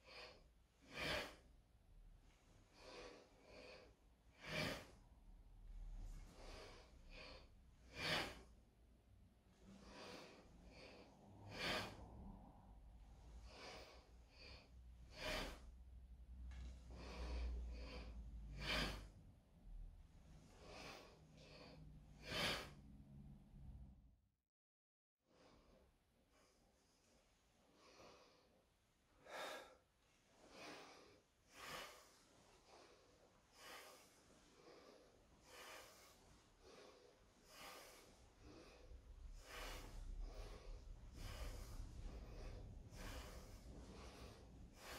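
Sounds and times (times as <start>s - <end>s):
soft breaths: 0.0s - 23.9s, 25.3s - 44.9s.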